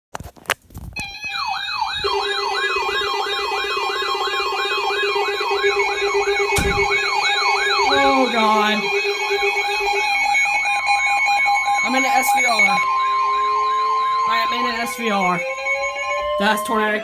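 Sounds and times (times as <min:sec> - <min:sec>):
electronic siren sweeping: 0:01.0 - 0:17.0.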